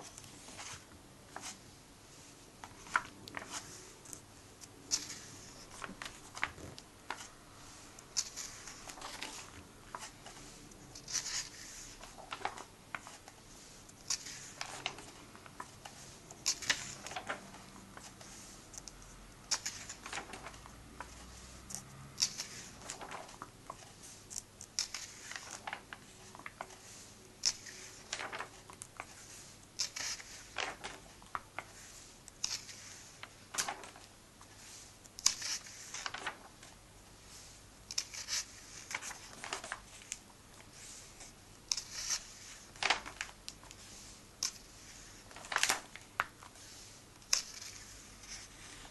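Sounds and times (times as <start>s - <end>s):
paper pages turning: 0.0s - 48.9s.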